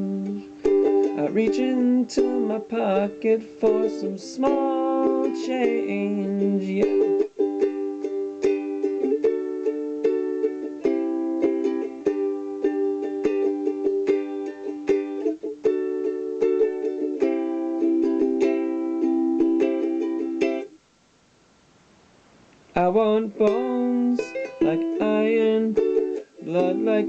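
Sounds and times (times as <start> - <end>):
ukulele strumming: 0.0 - 20.8, 22.7 - 27.0.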